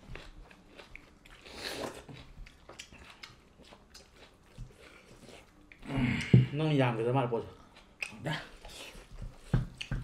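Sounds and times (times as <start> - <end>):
chewing with wet mouth clicks: 0.0 - 6.3, 7.6 - 10.0.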